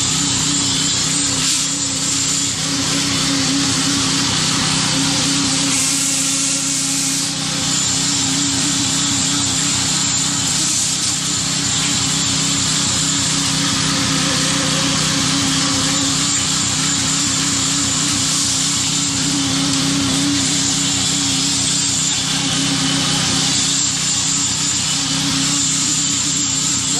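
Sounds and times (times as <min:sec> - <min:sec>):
concrete mixer pump running: 0:00.0 - 0:26.9.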